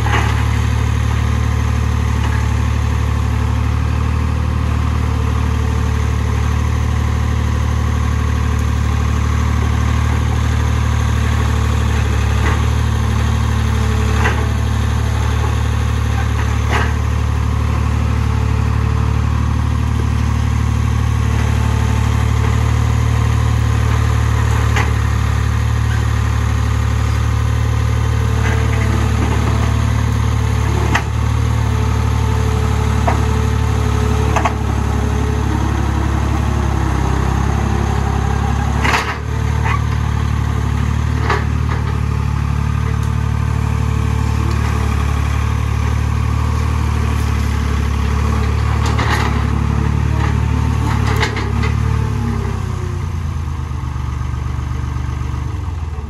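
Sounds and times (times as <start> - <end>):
skid loader engine running: 0.0 - 56.0.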